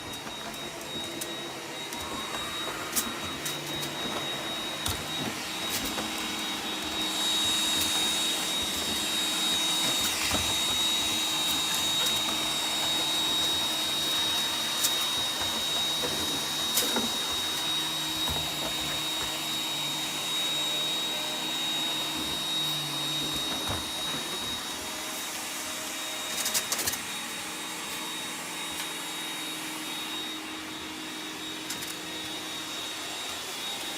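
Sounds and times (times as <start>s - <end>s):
robot vacuum cleaner running: 0.0s - 33.9s.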